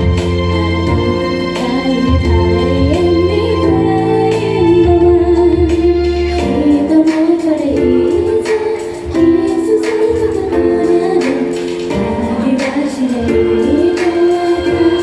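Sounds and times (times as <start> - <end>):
backing track with drum beat: 0.0 - 15.0
group singing pop song: 1.6 - 15.0.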